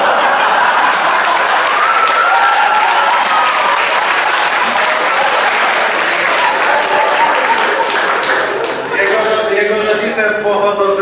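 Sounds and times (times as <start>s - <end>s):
audience applauding: 0.0s - 10.1s
crowd cheering: 0.0s - 10.1s.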